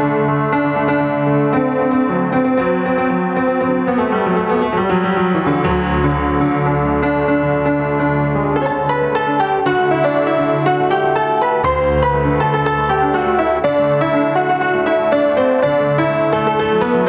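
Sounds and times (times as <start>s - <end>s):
piano chords and melody: 0.0s - 17.0s.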